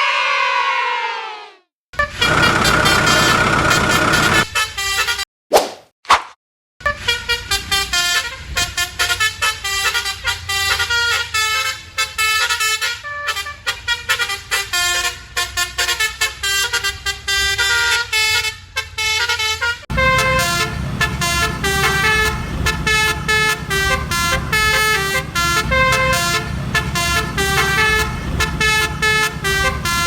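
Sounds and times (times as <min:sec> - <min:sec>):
cartoon horns honking a tune: 0:02.0 - 0:05.2, 0:06.8 - 0:30.0.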